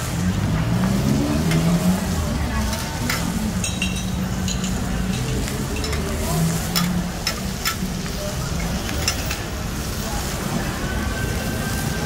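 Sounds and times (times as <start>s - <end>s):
oil sizzling on a griddle: 0.0s - 12.0s.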